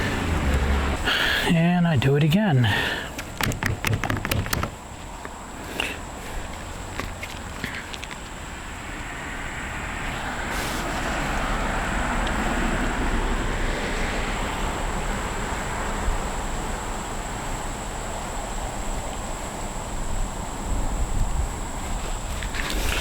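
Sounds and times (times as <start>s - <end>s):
rush of passing traffic: 0.0s - 23.0s.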